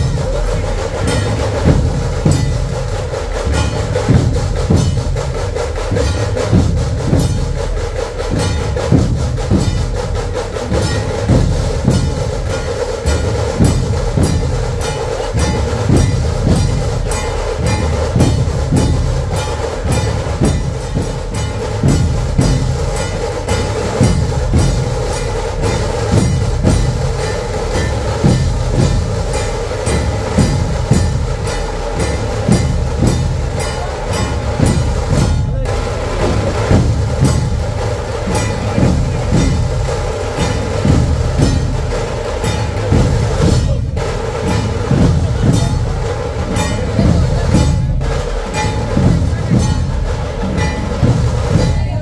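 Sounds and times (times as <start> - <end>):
drum band playing fast beat: 0.0 - 52.0.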